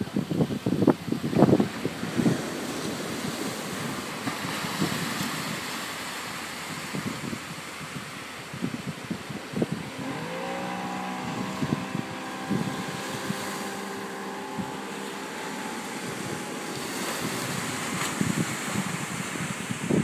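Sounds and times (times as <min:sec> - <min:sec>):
outboard motor: 0:00.0 - 0:20.0
wind buffeting microphone: 0:00.0 - 0:20.0.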